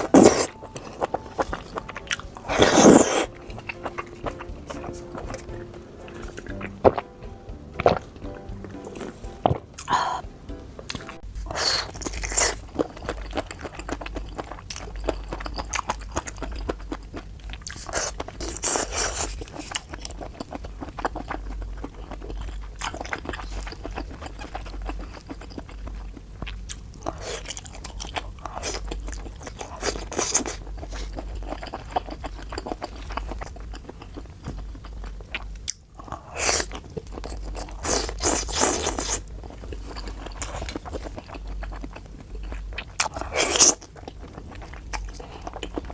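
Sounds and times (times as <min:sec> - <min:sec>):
crunchy bites of food: 0:00.0 - 0:05.4, 0:10.9 - 0:45.9
wet chewing: 0:00.0 - 0:07.1, 0:10.9 - 0:45.9.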